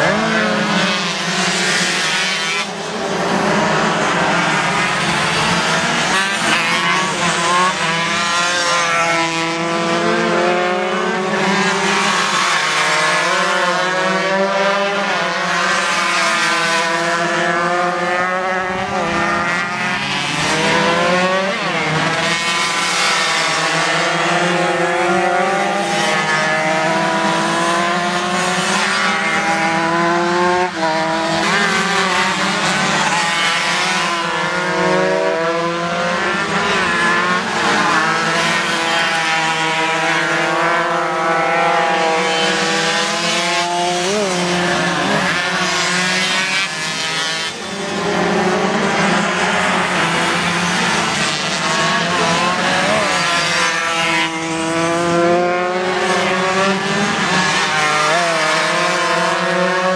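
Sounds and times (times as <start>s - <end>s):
racing motorcycle engines revving: 0.0s - 59.9s.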